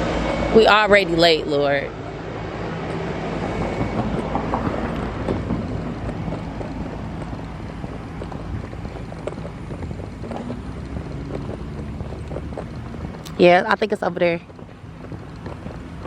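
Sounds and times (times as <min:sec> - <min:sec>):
vehicle humming: 0:00.0 - 0:16.0
wind noise on microphone: 0:00.0 - 0:16.0.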